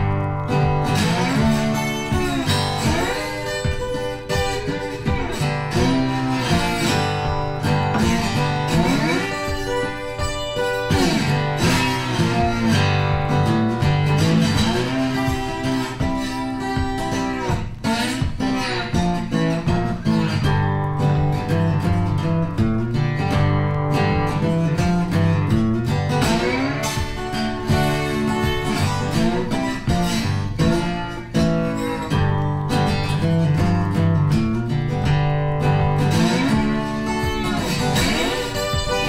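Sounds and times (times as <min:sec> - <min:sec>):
guitar music with sliding notes: 0:00.0 - 0:39.0.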